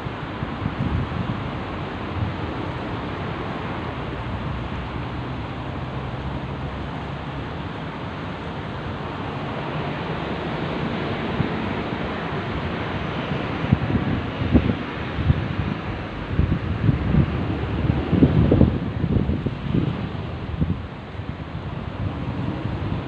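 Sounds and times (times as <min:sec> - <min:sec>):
sea surf rushing: 0:00.0 - 0:23.0
wind buffeting microphone: 0:00.0 - 0:23.0.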